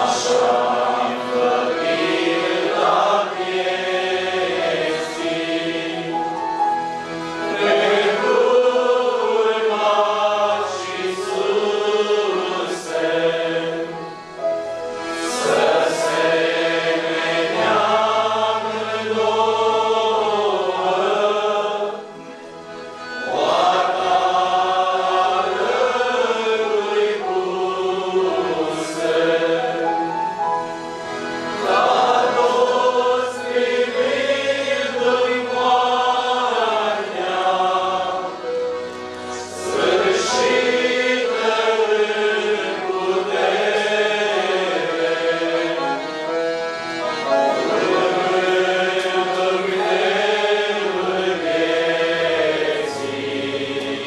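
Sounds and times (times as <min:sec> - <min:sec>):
accordions: 0:00.0 - 0:54.0
choir singing a hymn: 0:00.0 - 0:54.0
keyboard bass notes: 0:00.0 - 0:54.0.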